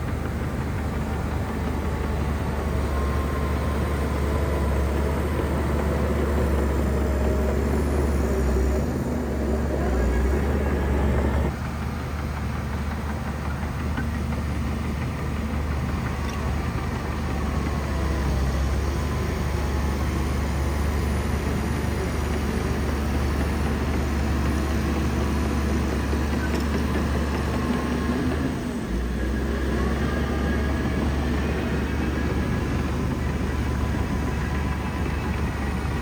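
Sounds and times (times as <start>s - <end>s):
bulldozer diesel engine droning: 0.0s - 36.0s.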